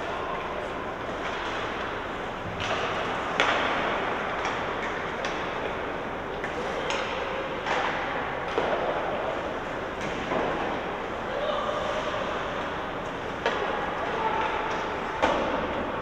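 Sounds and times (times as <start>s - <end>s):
hockey sticks and puck clacking: 0.0s - 16.0s.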